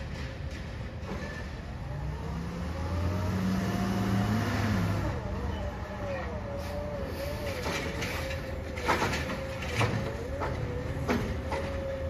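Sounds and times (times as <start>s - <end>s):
garbage truck engine rumble: 0.0s - 12.0s.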